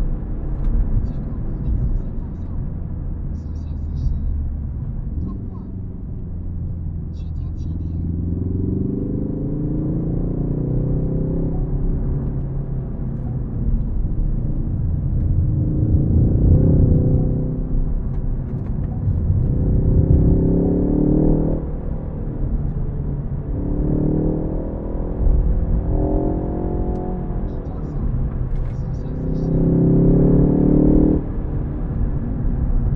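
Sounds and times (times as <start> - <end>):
car engine revving: 0.0 - 32.9
road and tyre rumble: 0.0 - 32.9.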